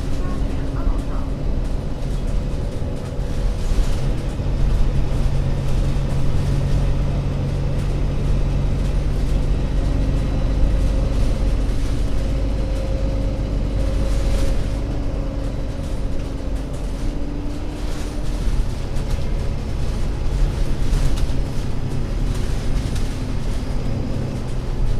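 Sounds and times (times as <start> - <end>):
bus diesel engine droning: 0.0 - 24.9.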